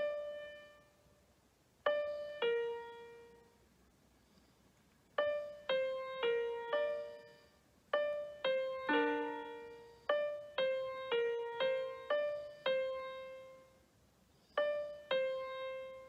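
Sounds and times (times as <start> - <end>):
slow piano melody: 0.0 - 1.1, 1.8 - 3.6, 5.2 - 16.0.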